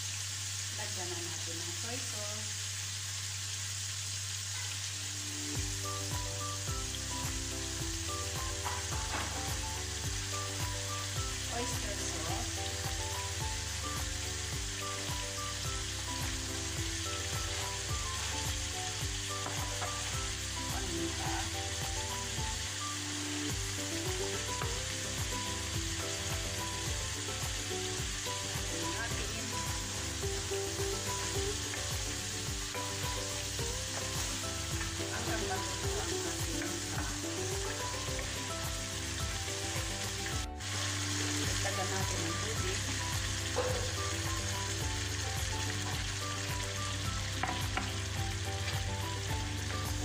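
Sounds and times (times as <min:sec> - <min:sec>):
vegetables sizzling in a frying pan: 0:00.0 - 0:50.0
background music with steady beat: 0:05.4 - 0:50.0.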